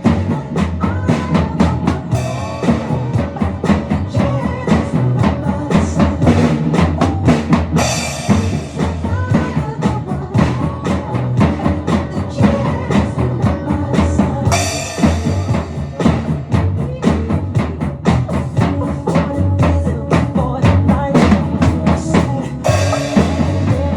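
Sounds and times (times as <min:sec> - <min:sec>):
pitched instruments music: 0:00.0 - 0:19.4, 0:21.1 - 0:23.9
drum kit beat: 0:00.0 - 0:23.9.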